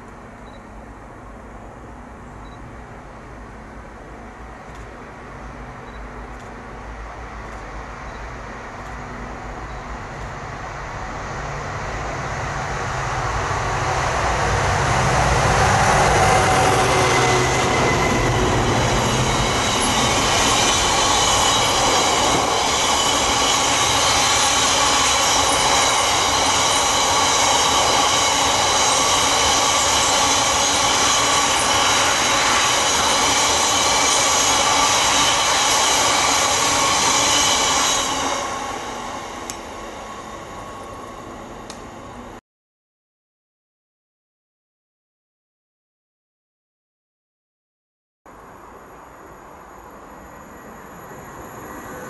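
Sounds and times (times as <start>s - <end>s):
diesel locomotive engine: 0.0s - 42.4s, 48.3s - 52.0s.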